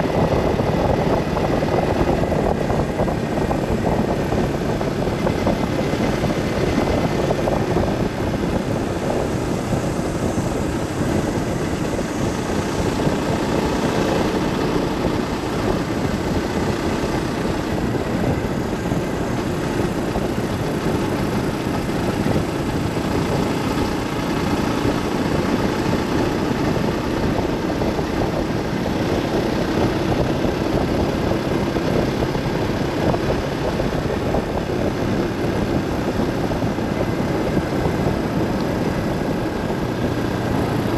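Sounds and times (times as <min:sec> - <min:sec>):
vehicle driving on road: 0:00.0 - 0:40.9.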